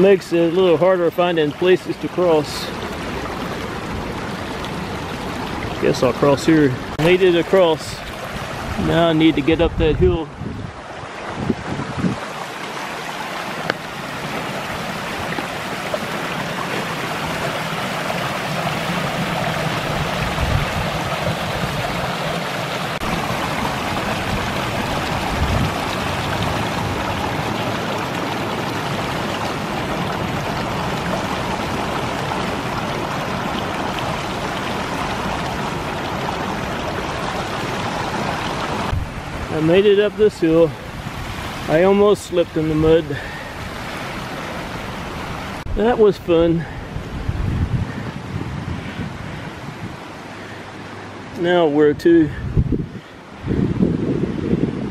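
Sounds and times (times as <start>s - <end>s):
creek water rushing and gurgling: 0.0s - 54.9s.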